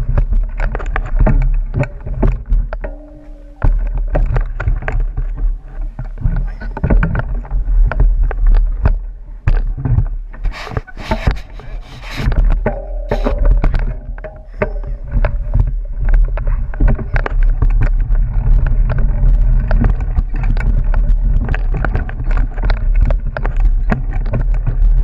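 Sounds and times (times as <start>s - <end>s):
bike rattling and knocking: 0.0s - 25.0s
wind and trail rumble: 0.0s - 25.0s.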